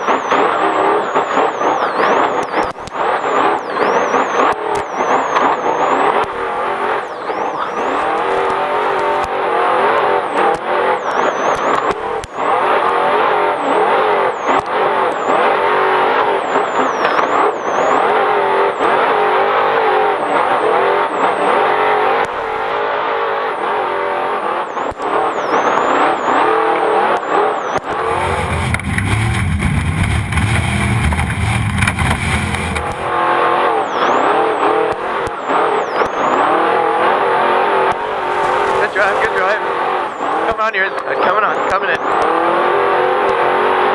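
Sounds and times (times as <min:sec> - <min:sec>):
race engine revving: 0:00.0 - 0:43.9.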